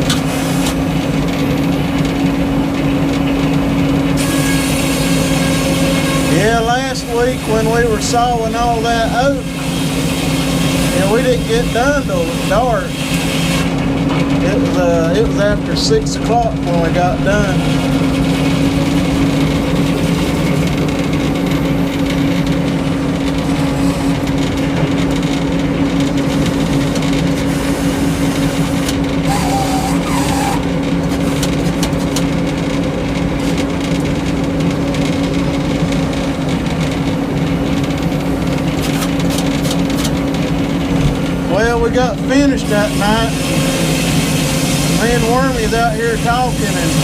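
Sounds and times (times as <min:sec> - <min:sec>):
sawmill engine running: 0:00.0 - 0:47.0.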